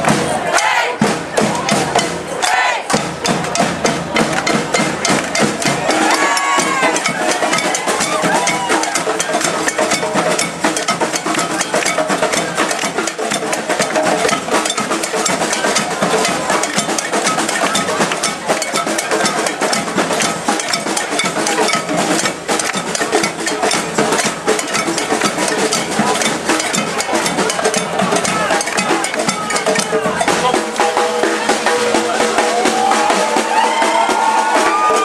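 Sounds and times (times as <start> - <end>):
crowd voices: 0.0 - 35.0
hand percussion clatter: 2.9 - 32.2.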